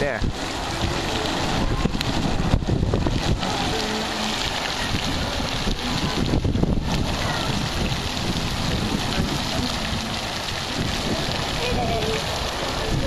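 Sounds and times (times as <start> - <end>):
pool water splashing: 0.0 - 13.0
wind buffeting microphone: 0.0 - 13.0.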